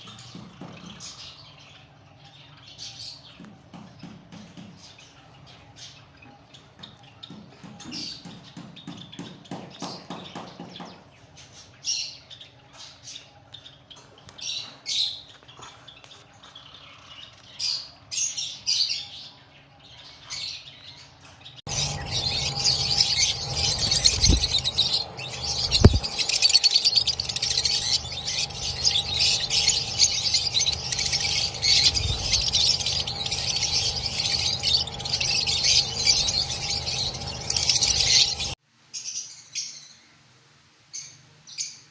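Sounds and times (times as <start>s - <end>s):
parrots chirping and squawking: 0.0s - 40.0s.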